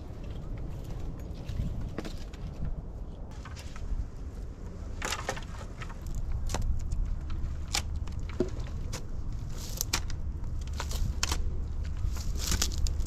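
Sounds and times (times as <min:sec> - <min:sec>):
twigs and leaves crackling: 0:00.0 - 0:13.0.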